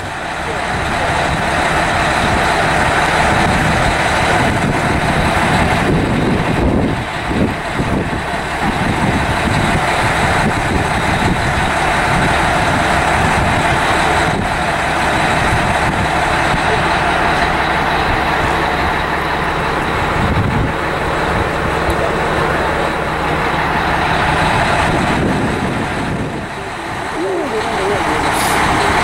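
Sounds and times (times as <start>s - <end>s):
diesel locomotive engine running: 0.0s - 29.0s.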